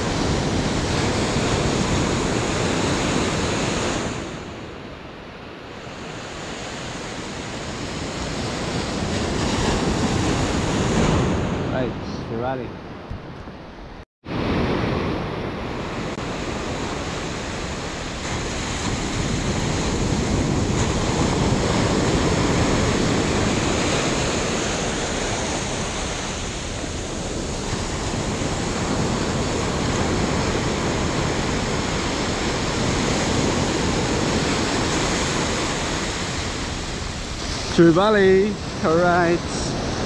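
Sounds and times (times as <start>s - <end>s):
waves breaking on beach: 0.0s - 13.1s, 14.3s - 40.0s.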